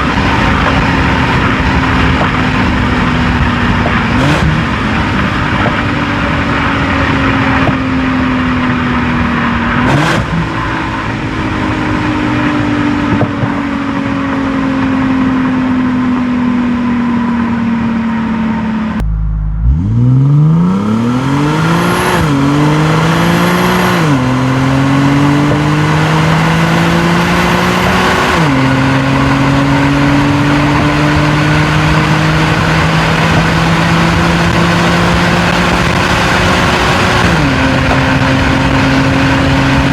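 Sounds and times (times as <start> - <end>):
car engine and exhaust accelerating: 0.0 - 39.9.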